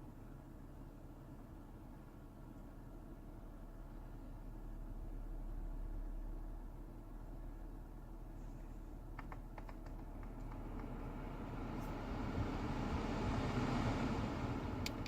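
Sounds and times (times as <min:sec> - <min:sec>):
air conditioning fan blowing: 0:00.0 - 0:15.0.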